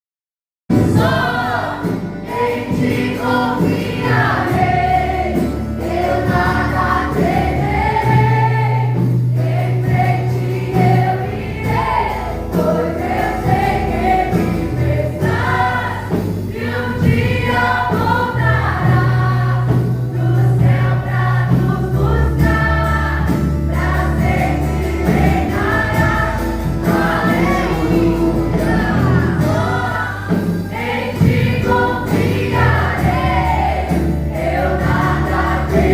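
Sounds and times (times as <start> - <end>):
choir singing: 0.7 - 35.9
sustained bass line: 0.7 - 35.9
worship band playing: 0.7 - 35.9.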